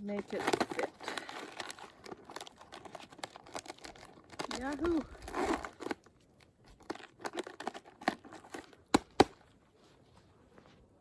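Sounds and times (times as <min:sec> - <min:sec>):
dry bark crinkling and crackling: 0:00.0 - 0:10.7.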